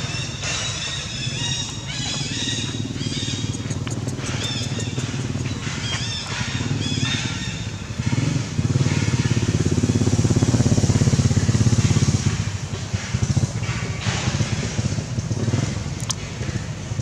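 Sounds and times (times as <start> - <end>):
engine pulsing: 0.0 - 17.0.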